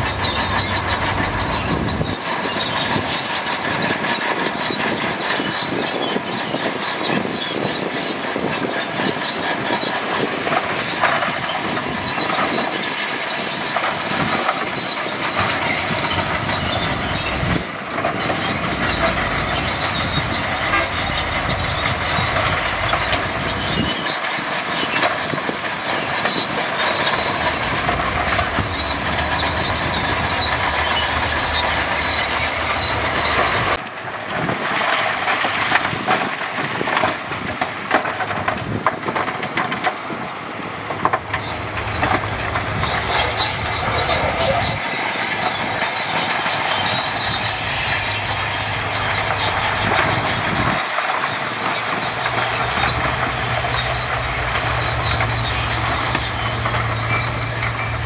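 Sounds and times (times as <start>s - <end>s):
low engine rumble: 0.0s - 4.2s, 15.2s - 58.0s
metallic track clatter with squeals: 0.0s - 58.0s.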